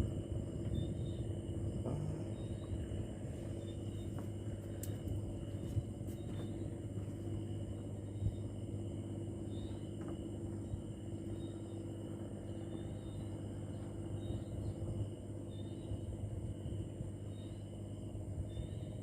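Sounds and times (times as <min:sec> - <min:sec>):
faint insect chirps: 0:00.0 - 0:19.0
low engine hum: 0:00.0 - 0:19.0.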